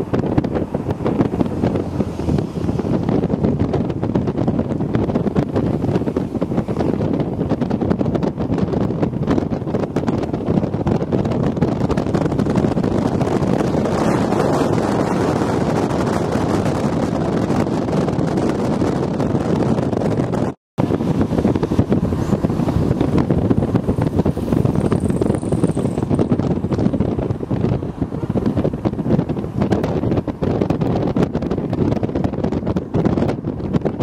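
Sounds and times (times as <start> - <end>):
vehicle road noise: 0.0 - 34.0
wind buffeting microphone: 0.0 - 34.0.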